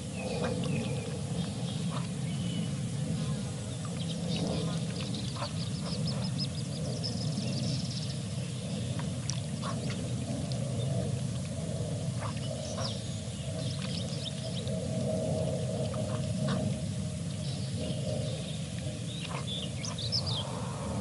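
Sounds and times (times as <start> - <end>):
steady low rumble: 0.0 - 21.0
wild birds chirping: 0.0 - 21.0.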